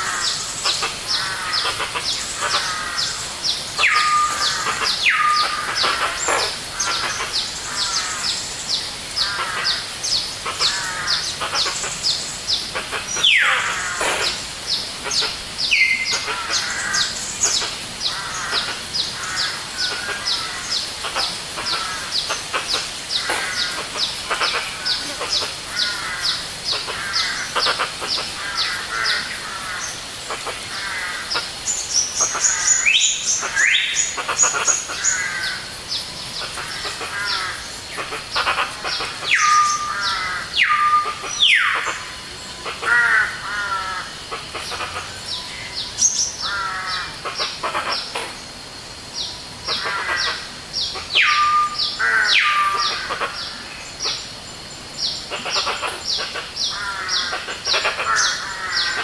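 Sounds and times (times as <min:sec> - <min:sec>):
forest bird chorus: 0:00.0 - 0:59.0.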